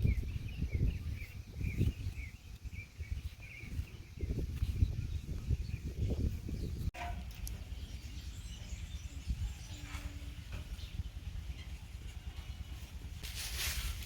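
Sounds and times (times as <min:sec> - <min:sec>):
faint bird chirps: 0:00.0 - 0:12.9
wind rumbling on microphone: 0:00.0 - 0:14.0.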